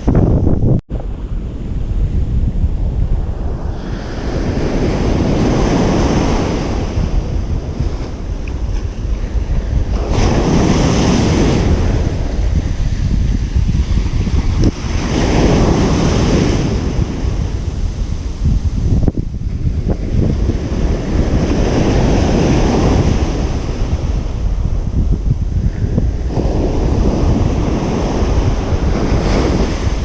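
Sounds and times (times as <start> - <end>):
wind rumbling on microphone: 0.0 - 30.0
ocean surf washing onto beach: 0.9 - 30.0.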